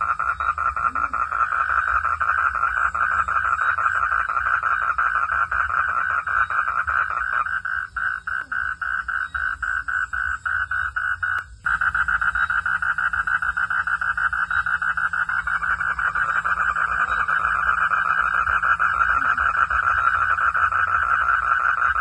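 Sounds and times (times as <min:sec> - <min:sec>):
frogs calling in chorus: 0:00.0 - 0:22.0.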